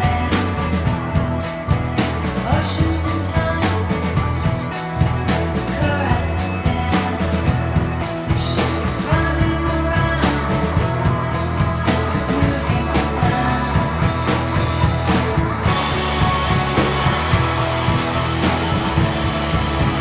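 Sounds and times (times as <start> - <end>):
rock band playing: 0.0 - 20.0
steady drum beat: 0.0 - 20.0.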